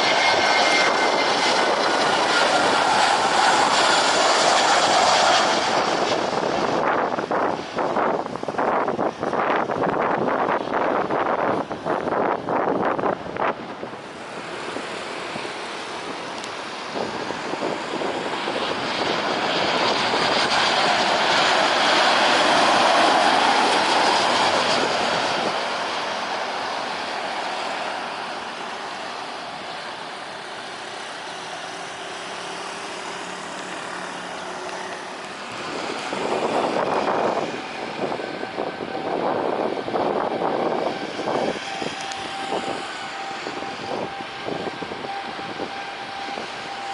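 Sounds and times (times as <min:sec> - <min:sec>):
jet airliner passing: 0:00.0 - 0:46.9.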